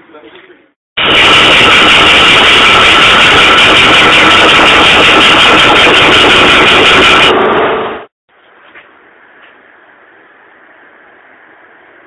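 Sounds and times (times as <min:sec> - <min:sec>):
workshop machine running with whine: 0:01.0 - 0:12.0.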